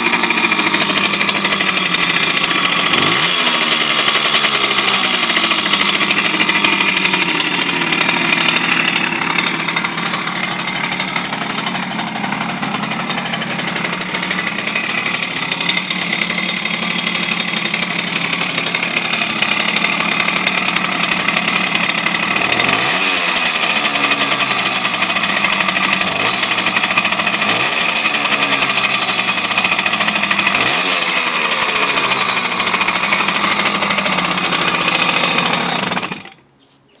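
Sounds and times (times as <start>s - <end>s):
two-stroke moped engine revving: 0.0s - 36.4s.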